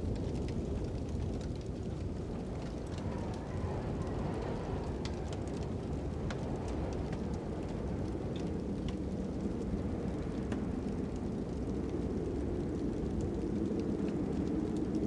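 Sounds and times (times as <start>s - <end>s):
fire crackling and popping: 0.0s - 15.0s
low wind rumble: 0.0s - 15.0s.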